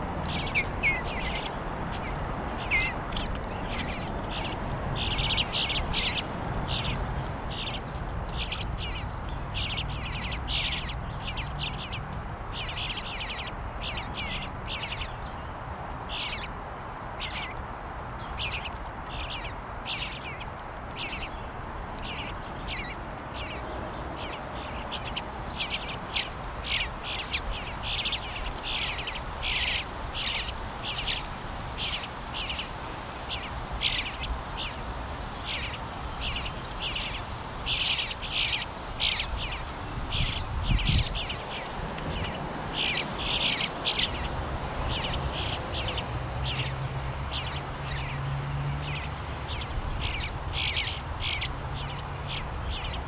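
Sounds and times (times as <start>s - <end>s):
fledglings begging calls: 0.0s - 53.0s.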